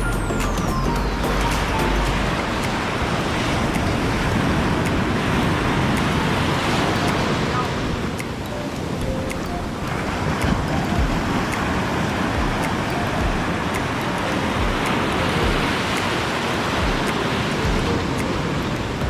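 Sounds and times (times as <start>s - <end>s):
surf breaking on a beach: 1.7s - 19.0s.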